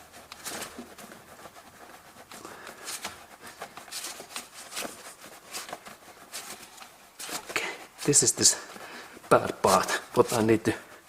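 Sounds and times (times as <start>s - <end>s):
hands scuffing and rustling: 0.0s - 11.0s.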